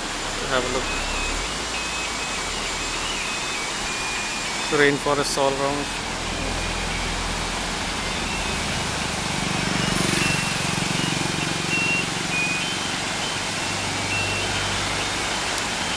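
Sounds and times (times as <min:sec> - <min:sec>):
vehicle passing: 0:00.0 - 0:04.9, 0:05.9 - 0:15.9
waterfall rushing: 0:00.0 - 0:15.9.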